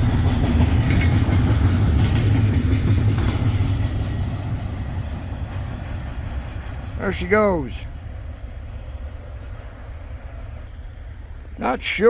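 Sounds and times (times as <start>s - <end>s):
train rumbling by: 0.0s - 12.0s
train wheel clatter: 0.0s - 12.0s.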